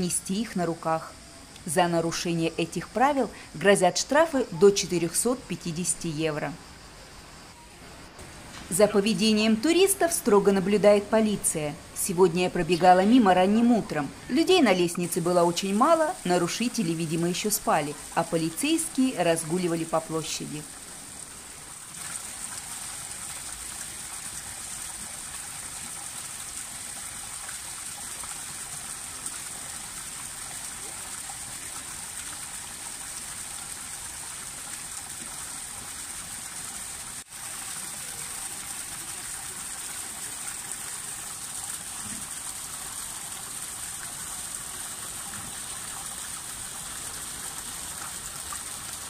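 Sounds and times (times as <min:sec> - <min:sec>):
fountain water splashing: 0:08.2 - 0:49.0.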